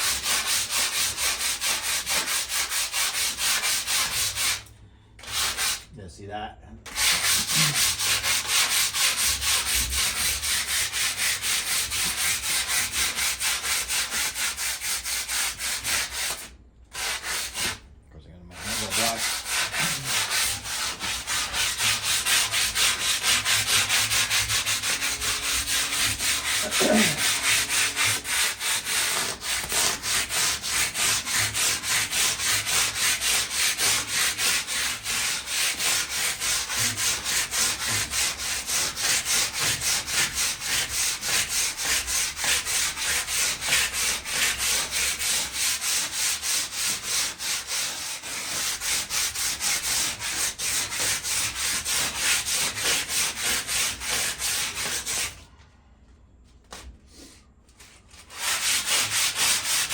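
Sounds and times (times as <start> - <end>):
sandpaper rubbing rusted metal: 0.0 - 5.9, 6.9 - 17.8, 18.5 - 55.4, 57.8 - 59.9.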